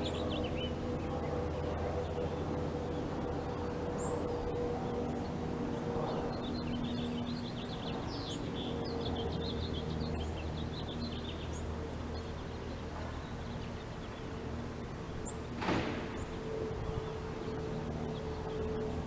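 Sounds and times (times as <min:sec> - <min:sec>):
low mechanical hum: 0:00.0 - 0:19.0
small birds twittering: 0:00.0 - 0:19.0.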